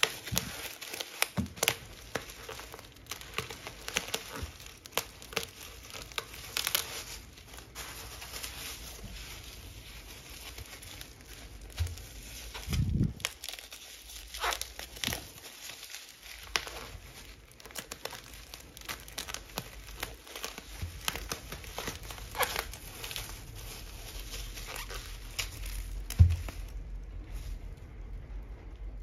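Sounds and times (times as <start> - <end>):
bubble wrap crinkling: 0.0 - 29.0.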